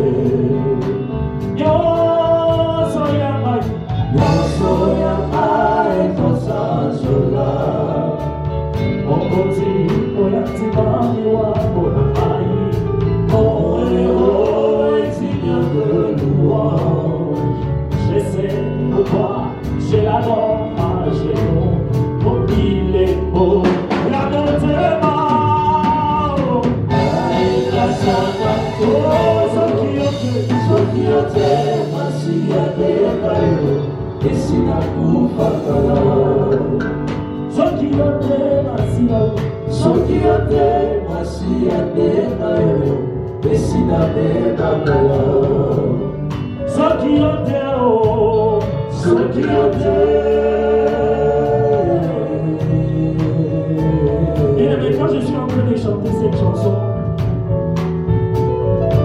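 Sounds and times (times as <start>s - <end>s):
band playing a steady beat: 0.0s - 59.0s
voices singing gospel music: 0.0s - 59.0s.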